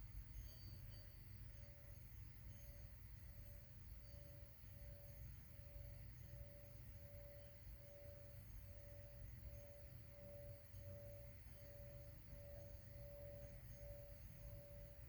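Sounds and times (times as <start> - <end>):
faint pulsing tone: 0.0 - 15.0.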